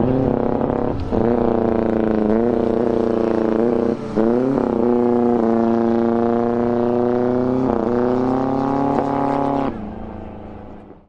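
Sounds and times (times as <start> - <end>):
motorcycles accelerating hard: 0.0 - 10.1.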